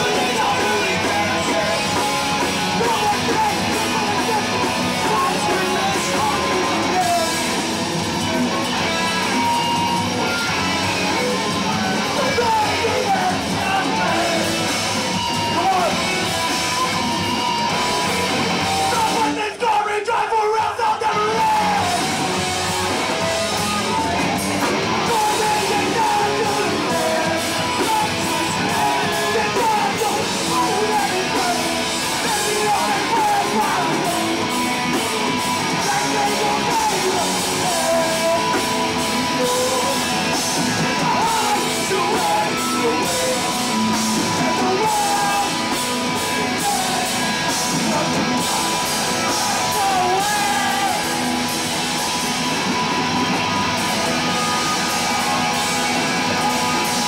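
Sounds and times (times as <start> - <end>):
bass guitar: 0.0 - 19.6, 20.8 - 57.0
drums pounding: 0.0 - 19.6, 21.0 - 57.0
distorted electric guitars: 0.0 - 57.0
shouted lead vocal: 0.0 - 57.0.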